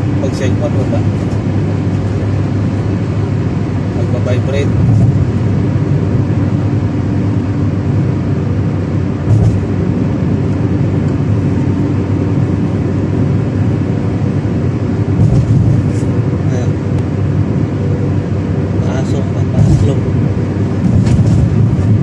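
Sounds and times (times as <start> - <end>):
car cruising on highway: 0.0 - 22.0.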